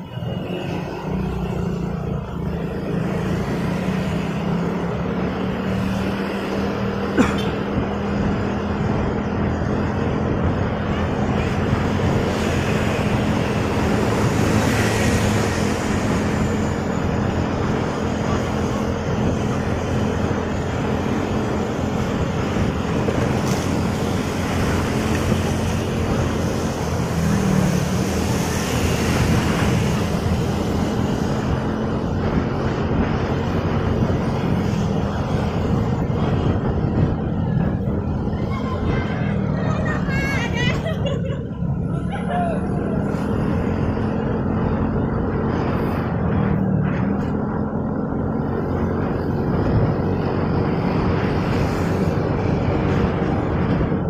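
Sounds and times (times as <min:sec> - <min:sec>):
tyres on wet road: 0:00.0 - 0:54.0.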